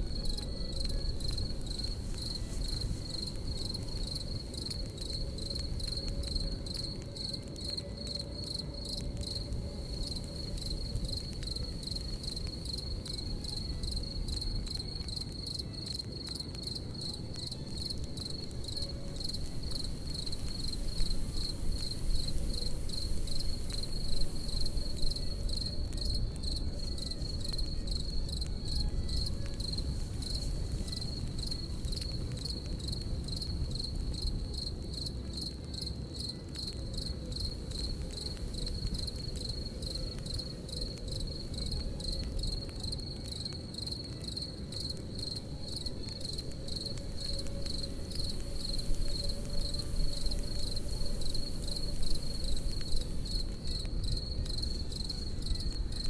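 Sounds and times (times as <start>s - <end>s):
campfire crackling: 0.0s - 56.0s
crickets chirping: 0.0s - 56.0s.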